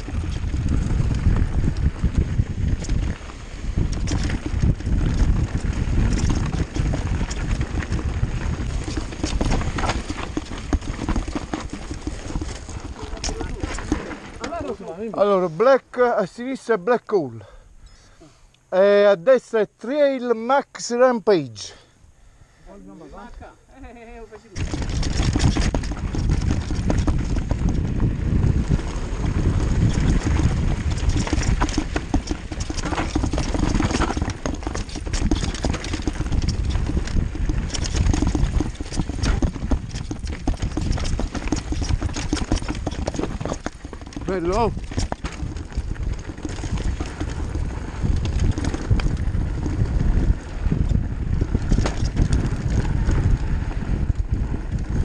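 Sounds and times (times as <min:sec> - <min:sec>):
wheels knocking on stones: 0:00.0 - 0:15.3, 0:24.6 - 0:55.0
wind rumble on microphone: 0:00.0 - 0:15.3, 0:24.5 - 0:55.0
bike rattling: 0:00.0 - 0:16.7, 0:23.9 - 0:55.0
tyres crunching over gravel: 0:00.0 - 0:16.7, 0:24.6 - 0:53.9.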